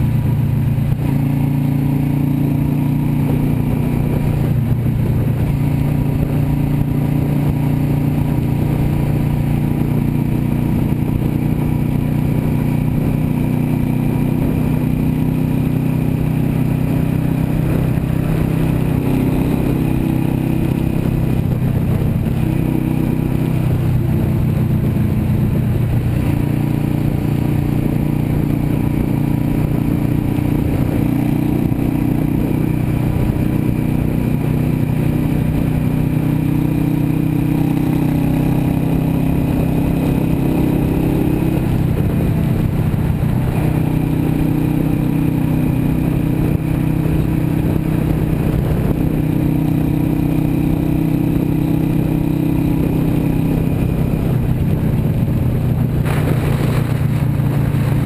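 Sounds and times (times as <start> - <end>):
motorcycle engine running: 0.0 - 58.0
road noise: 0.0 - 58.0
wind noise: 0.0 - 58.0.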